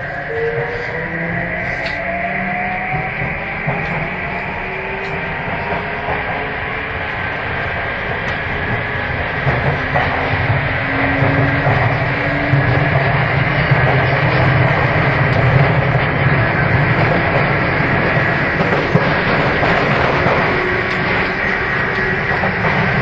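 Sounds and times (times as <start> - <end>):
train wheels and motors rumbling: 0.0 - 23.0.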